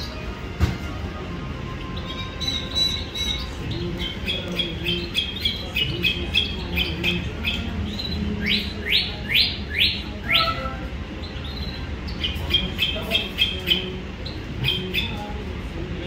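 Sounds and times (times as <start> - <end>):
songbirds chirping: 0.0 - 16.0
downward-sweeping bird calls: 1.7 - 15.4.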